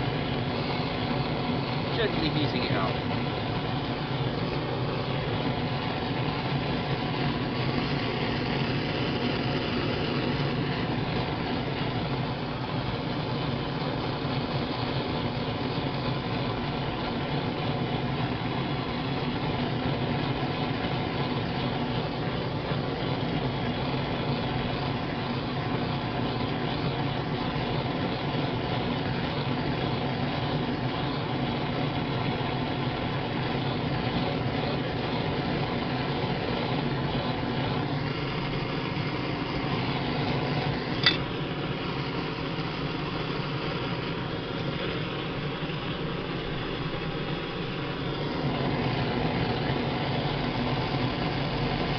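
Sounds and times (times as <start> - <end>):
propane torch burning: 0.0 - 51.9.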